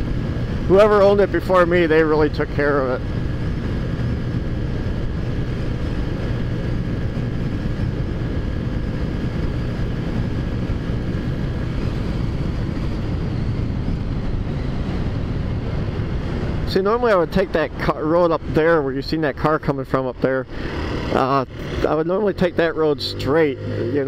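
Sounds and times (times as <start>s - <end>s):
wind noise: 0.0s - 23.0s
road noise: 0.0s - 24.0s.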